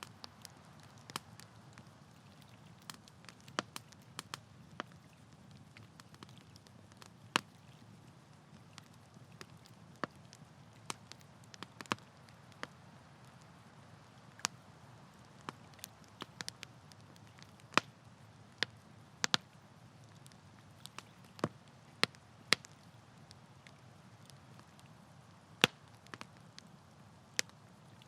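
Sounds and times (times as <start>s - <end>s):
campfire crackling: 0.0s - 28.0s
soft hiss of flame: 0.0s - 28.0s.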